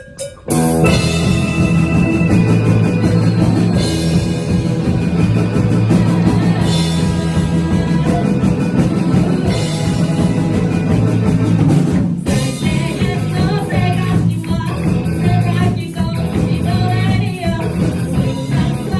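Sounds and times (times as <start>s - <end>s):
live rock band playing: 0.0s - 18.9s.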